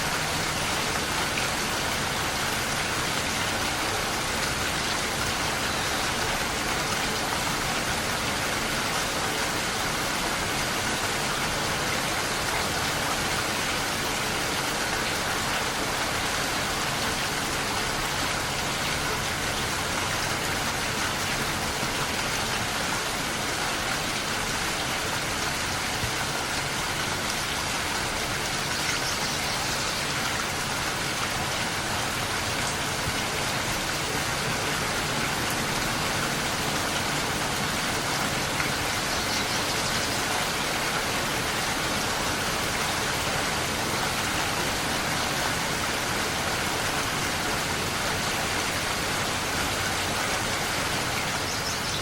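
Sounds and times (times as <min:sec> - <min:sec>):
steady rainfall: 0:00.0 - 0:52.0.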